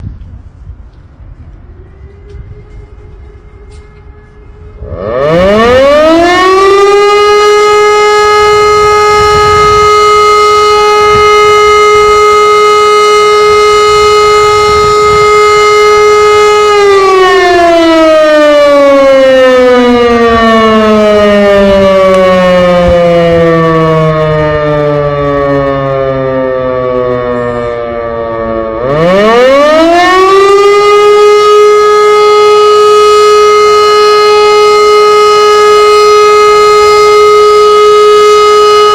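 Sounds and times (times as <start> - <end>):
warning siren wailing: 1.3 - 38.9.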